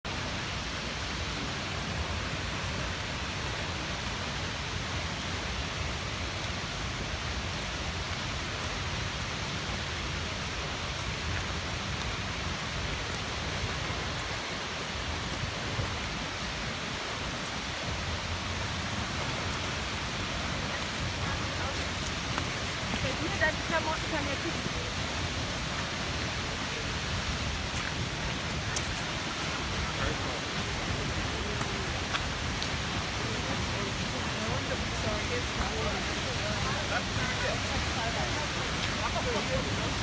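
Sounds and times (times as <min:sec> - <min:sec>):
waterfall rushing: 0:00.1 - 0:40.0.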